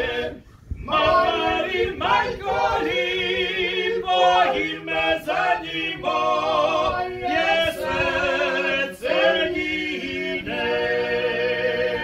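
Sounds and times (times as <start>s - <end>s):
men singing a cappella harmony: 0.0s - 12.0s.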